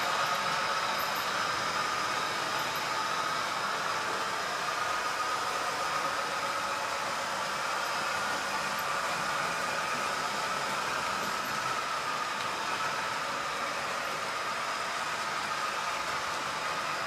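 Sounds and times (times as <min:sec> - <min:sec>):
model train engine sound hum: 0:00.0 - 0:17.0
model train wheels rumbling on rails: 0:00.0 - 0:17.0.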